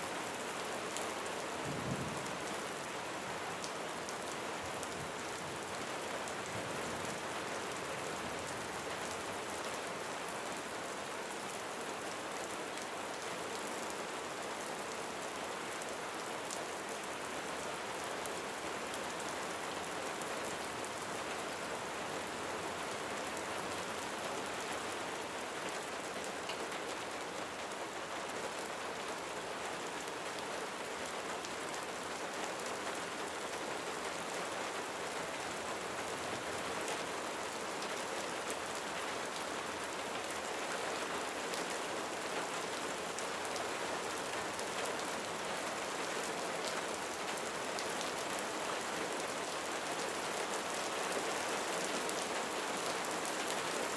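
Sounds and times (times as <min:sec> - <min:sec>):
rain falling on roof: 0:00.0 - 0:53.9.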